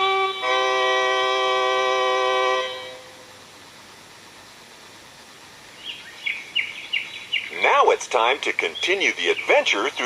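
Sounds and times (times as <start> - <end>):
cassette tape hiss: 0.0 - 10.0.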